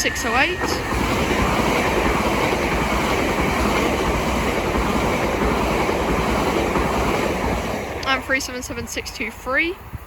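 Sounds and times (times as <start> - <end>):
train passing with rushing noise: 0.0 - 10.0.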